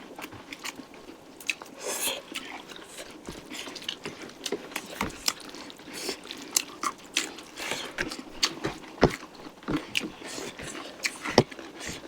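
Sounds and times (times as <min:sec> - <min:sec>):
close-up chewing: 0:00.0 - 0:12.0.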